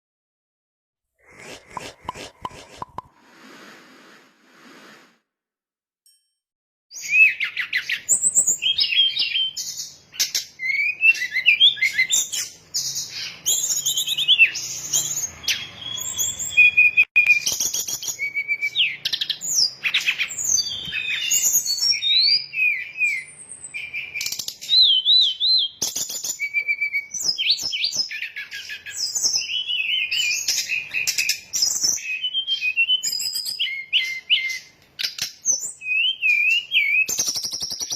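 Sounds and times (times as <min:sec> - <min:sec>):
bird song chirps and trills: 0:06.9 - 0:37.9.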